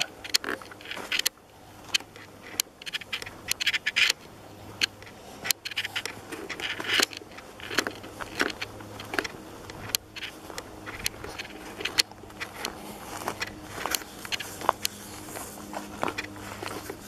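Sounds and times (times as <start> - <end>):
footsteps on dirt trail: 0.0 - 17.0
scraping rustles: 0.0 - 17.0.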